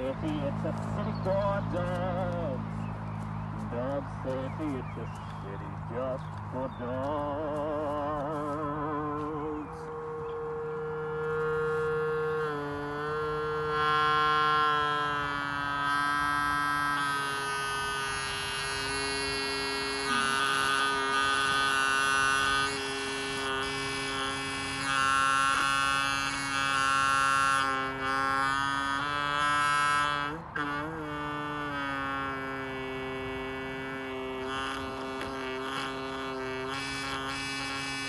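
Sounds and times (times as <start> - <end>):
microphone feedback tones: 0.0 - 38.0.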